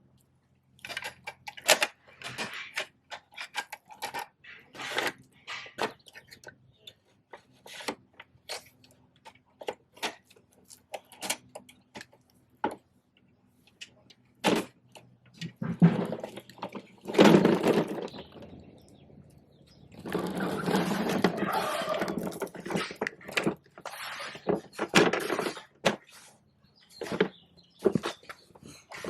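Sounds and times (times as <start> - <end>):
plastic toy rattling and scraping: 0.8 - 12.8, 14.4 - 26.4, 27.0 - 29.0.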